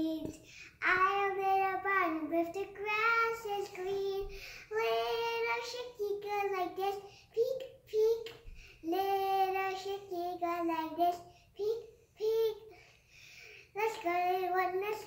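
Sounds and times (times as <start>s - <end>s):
girl singing unaccompanied: 0.0s - 12.8s, 13.6s - 15.0s.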